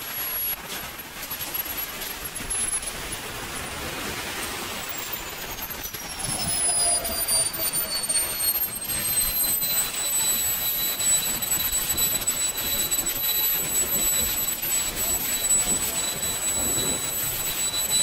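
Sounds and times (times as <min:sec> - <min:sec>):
jet turbine whine and exhaust rush: 0:00.0 - 0:18.0.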